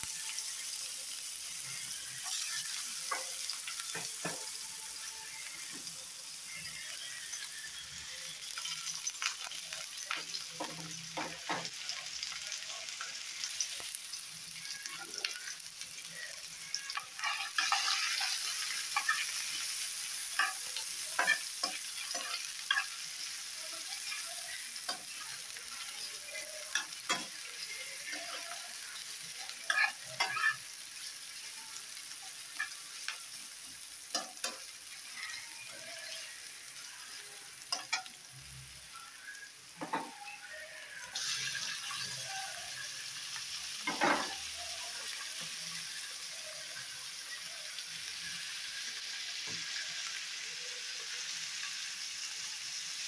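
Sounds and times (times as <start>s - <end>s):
onions sizzling in hot oil: 0.0s - 53.0s.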